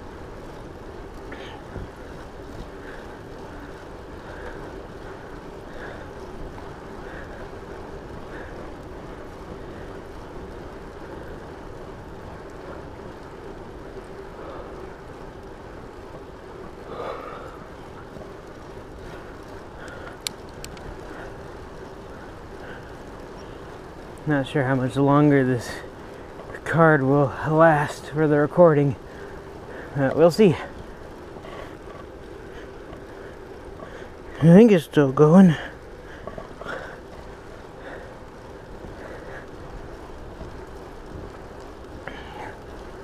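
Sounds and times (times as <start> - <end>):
bike tyres rolling on pavement: 0.0 - 43.0
faint steady hum: 0.0 - 43.0.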